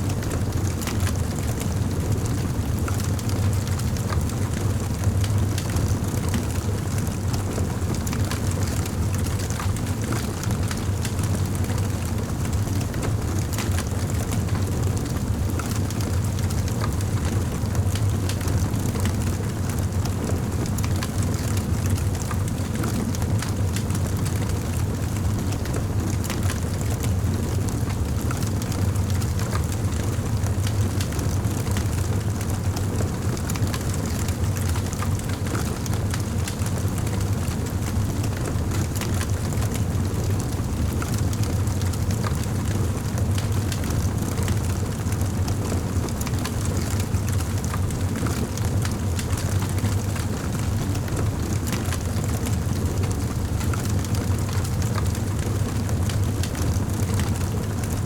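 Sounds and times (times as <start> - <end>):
low rumble of flames: 0.0 - 58.0.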